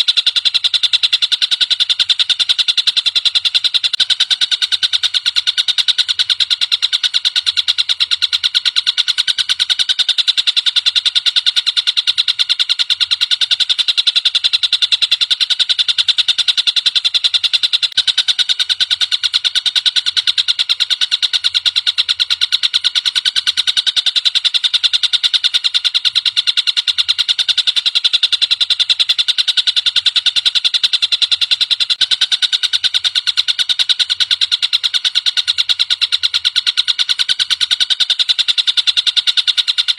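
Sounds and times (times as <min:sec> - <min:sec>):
rapid high-pitched bird trill: 0:00.0 - 0:39.9.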